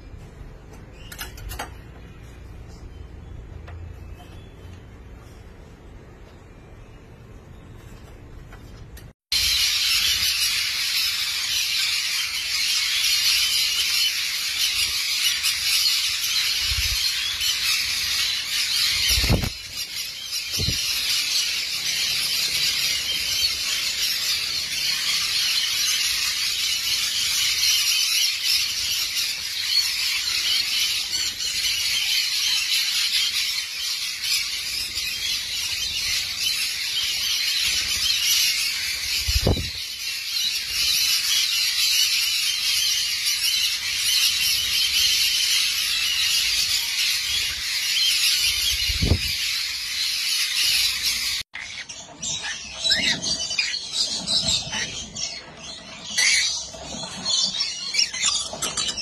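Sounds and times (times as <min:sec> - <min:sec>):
parrots squealing and chattering: 0:09.3 - 0:59.0.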